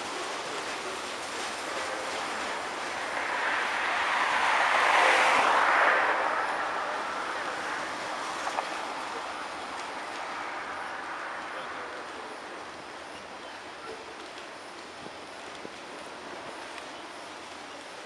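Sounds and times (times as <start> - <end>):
freight cars rolling on rails: 0.0 - 18.0.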